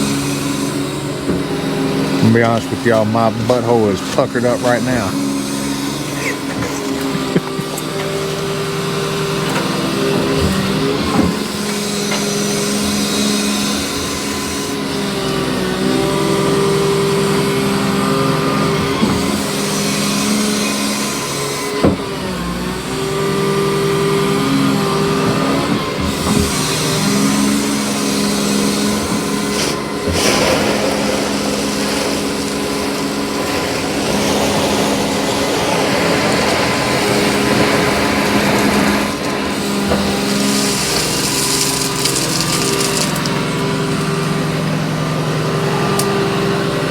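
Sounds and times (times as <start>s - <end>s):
excavator engine revving: 0.0s - 46.9s.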